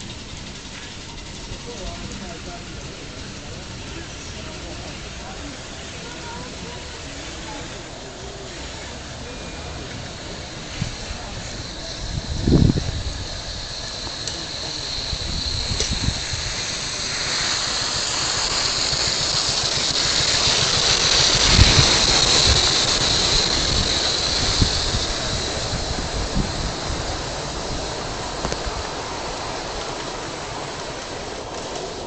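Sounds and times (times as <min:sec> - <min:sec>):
model steam locomotive hissing: 0:00.0 - 0:32.0
wheels knocking: 0:00.0 - 0:32.0.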